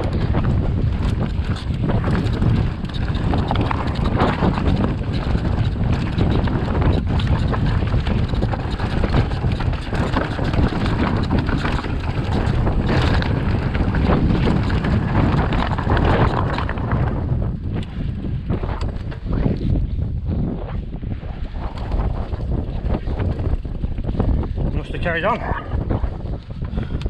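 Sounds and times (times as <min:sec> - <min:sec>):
bike rattling over stony trail: 0:00.0 - 0:27.0
wind buffeting microphone: 0:00.0 - 0:27.0.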